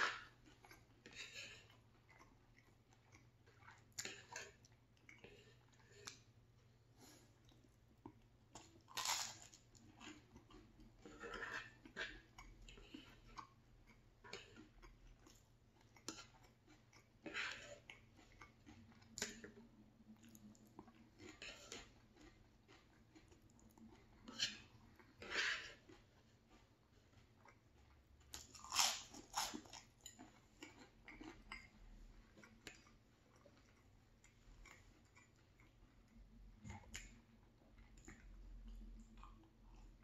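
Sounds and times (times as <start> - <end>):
chewing with crunching: 0.0 - 40.0.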